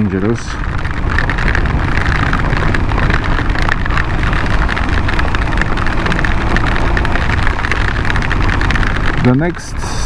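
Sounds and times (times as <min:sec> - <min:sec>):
motorcycle engine running: 0:00.0 - 0:10.0
raindrops hitting microphone: 0:00.0 - 0:10.0.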